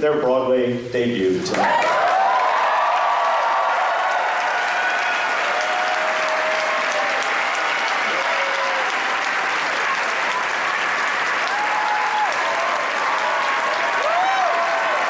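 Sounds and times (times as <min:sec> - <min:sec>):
audience applauding: 0:01.5 - 0:15.0
people cheering: 0:01.5 - 0:15.0.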